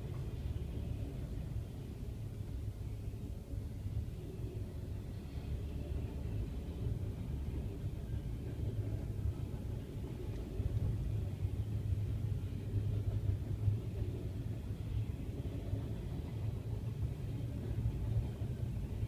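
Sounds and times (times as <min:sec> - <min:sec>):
train cars rumbling past: 0:00.0 - 0:19.0.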